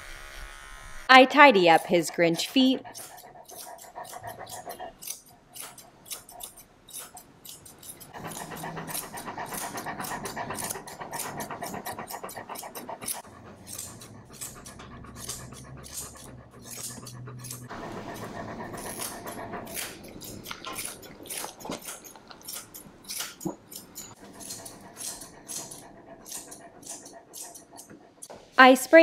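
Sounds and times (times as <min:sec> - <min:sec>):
dog panting: 0:01.2 - 0:22.8, 0:23.4 - 0:28.3.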